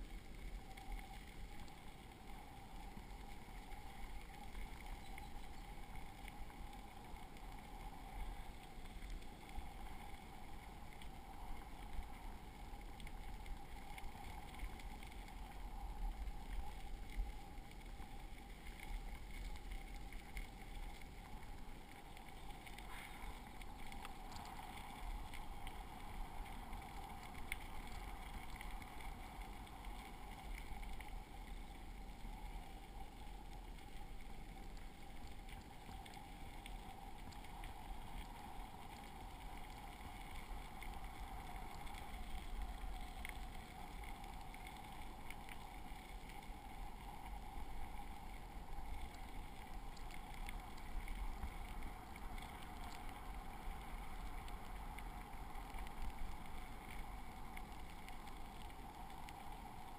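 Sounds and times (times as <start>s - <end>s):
bicycle tyres rolling on gravel: 0.0s - 59.9s
faint small clicks: 0.0s - 59.9s.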